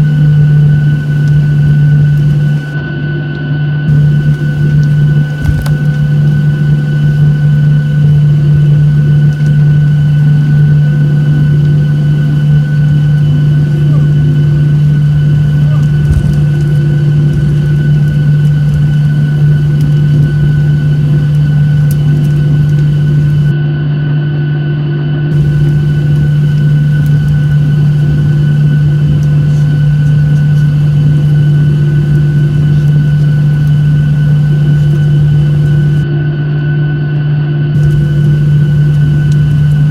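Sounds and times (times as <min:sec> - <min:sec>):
steady whining tones: 0:00.0 - 0:02.9, 0:03.9 - 0:23.6, 0:25.3 - 0:36.1, 0:37.7 - 0:39.9
jet engines humming in cabin: 0:00.0 - 0:23.6, 0:25.3 - 0:36.2, 0:37.7 - 0:39.9.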